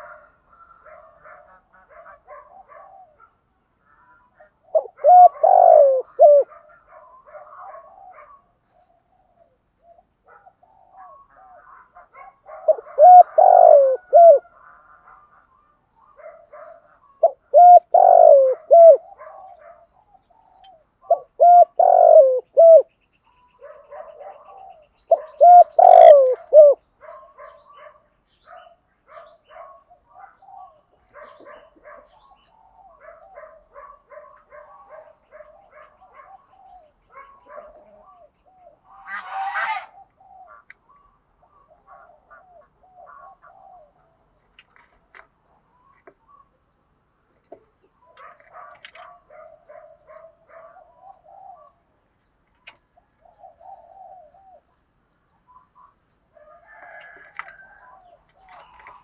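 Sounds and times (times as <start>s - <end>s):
dove cooing: 0.0s - 22.9s, 23.6s - 44.4s, 47.9s - 52.0s, 52.6s - 54.8s, 55.5s - 59.0s.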